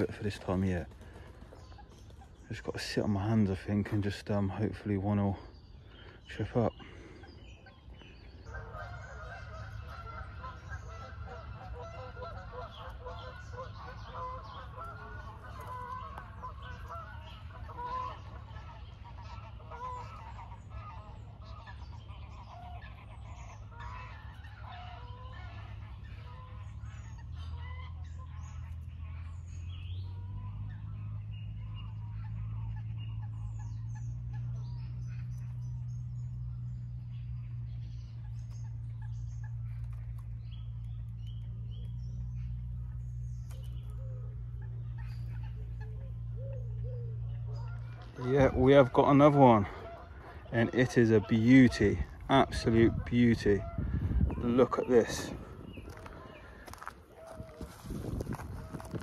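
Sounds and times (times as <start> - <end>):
geese honking: 0.0 - 59.0
small birds chirping: 0.0 - 59.0
steady low hum: 0.0 - 59.0.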